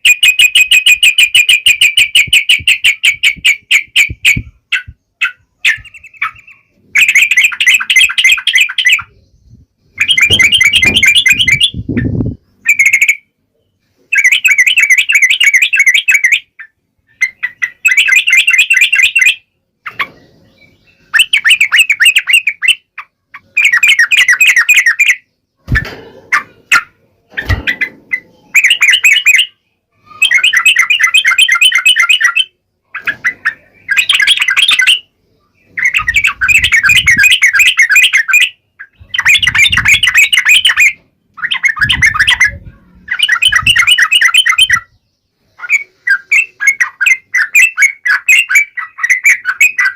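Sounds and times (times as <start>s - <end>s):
bird singing chattering song: 0.0s - 49.9s.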